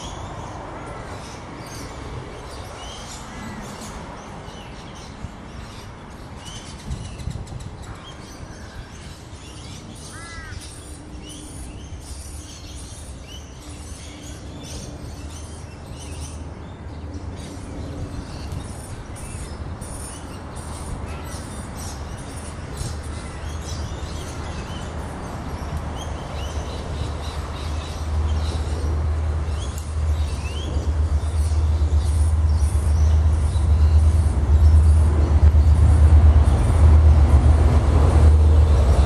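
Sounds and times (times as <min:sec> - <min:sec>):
low traffic rumble: 0:00.0 - 0:39.0.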